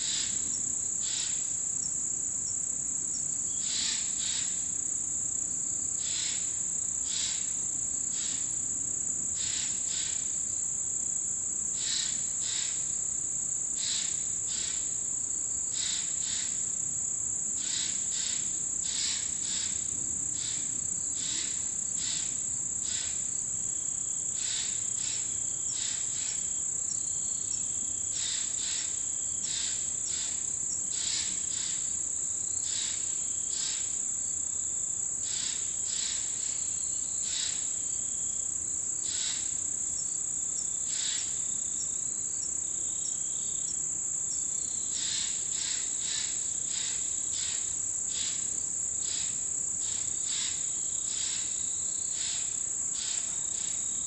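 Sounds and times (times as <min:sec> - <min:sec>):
insects chirping: 0:00.0 - 0:54.0
insects trilling: 0:00.0 - 0:54.0.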